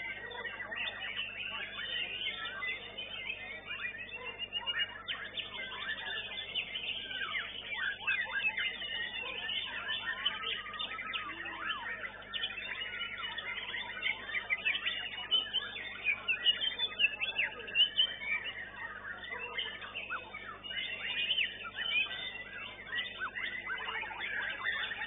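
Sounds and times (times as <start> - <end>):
songbirds singing in chorus: 0.0 - 25.0.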